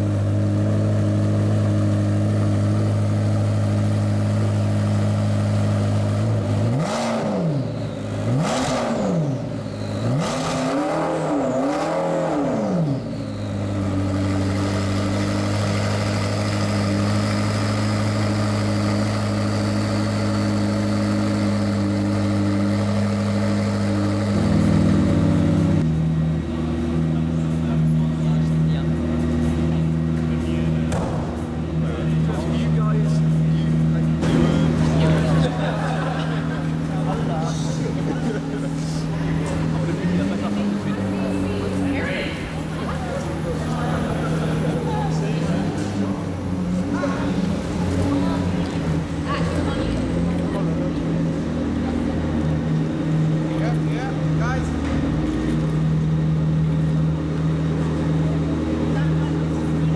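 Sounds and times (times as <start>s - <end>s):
car engine idling: 0.0s - 59.9s
engine revving: 0.0s - 59.9s.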